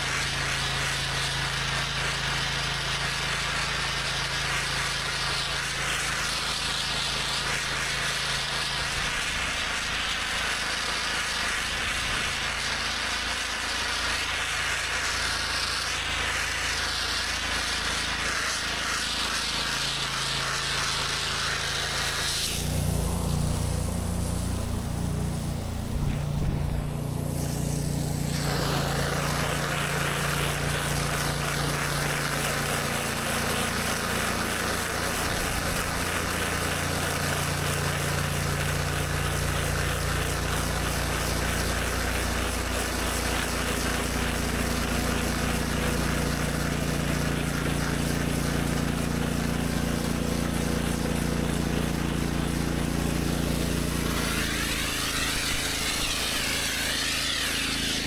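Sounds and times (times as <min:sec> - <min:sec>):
pressure washer engine running: 0:00.0 - 0:58.0
water spray hissing on concrete: 0:00.0 - 0:58.0.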